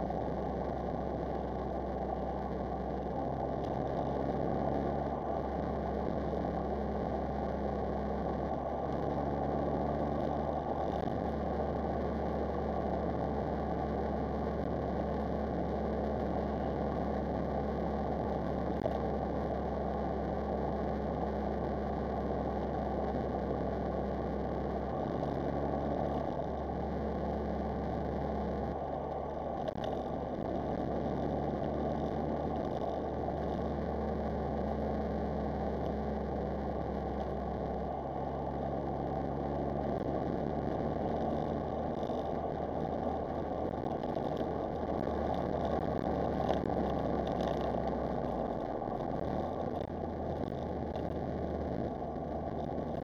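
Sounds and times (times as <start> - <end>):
road noise: 0.0 - 53.0.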